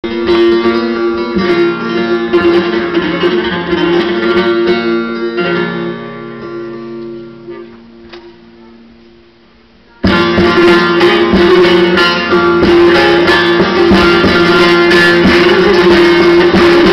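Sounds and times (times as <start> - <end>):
plucked long-necked lute with drone: 0.0 - 8.7, 10.0 - 16.9.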